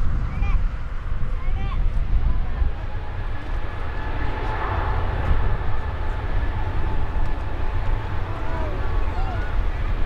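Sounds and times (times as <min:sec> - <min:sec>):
jet engines rumbling and whining: 0:00.0 - 0:10.0.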